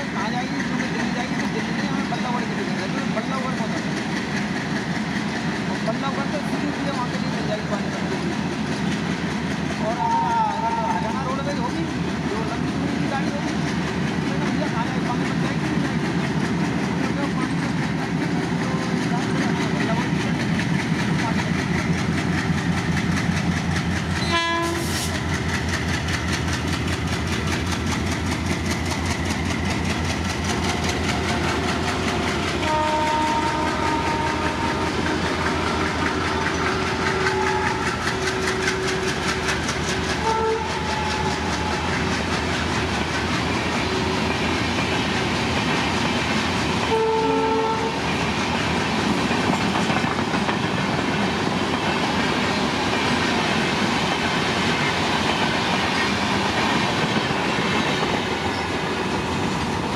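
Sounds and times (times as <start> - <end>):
train wheels clickety-clack: 0.0 - 59.9.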